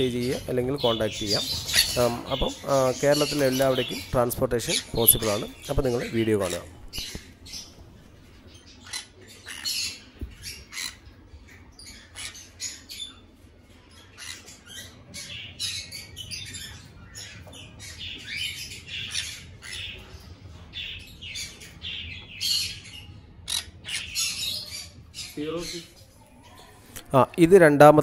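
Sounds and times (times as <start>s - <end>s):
parrots squawking and chirping: 0.0s - 26.8s.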